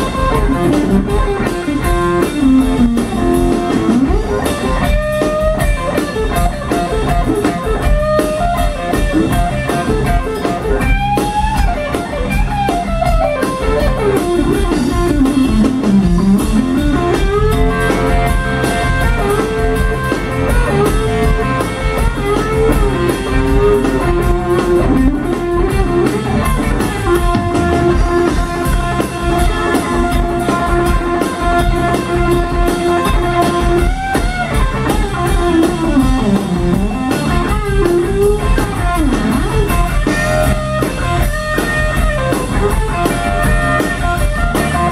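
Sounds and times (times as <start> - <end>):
drum kit: 0.0 - 44.9
electric bass: 0.0 - 44.9
electric guitar lead solo: 0.0 - 44.9.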